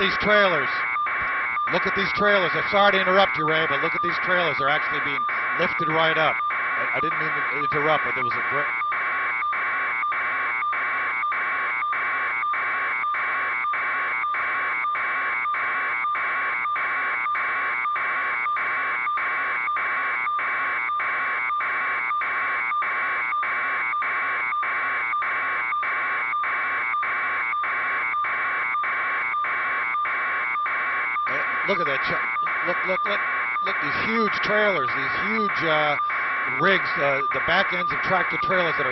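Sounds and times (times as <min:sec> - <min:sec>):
electronic alarm buzzer: 0:00.0 - 0:38.9.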